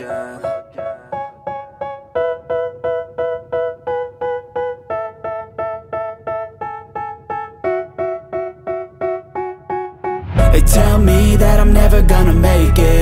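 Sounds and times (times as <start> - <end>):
repeated piano chords: 0.0 - 13.0.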